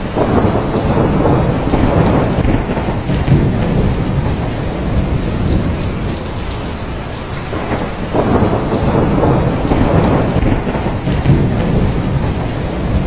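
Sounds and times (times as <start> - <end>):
rolling thunder: 0.0 - 13.0
steady rain: 0.0 - 13.0.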